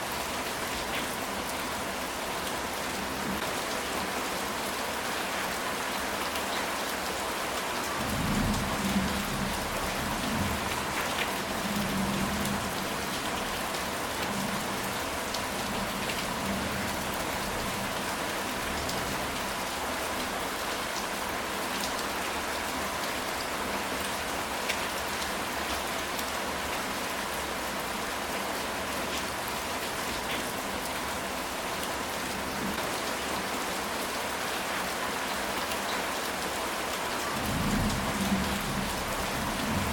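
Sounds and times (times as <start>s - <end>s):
rain on a tile roof: 0.0s - 39.9s.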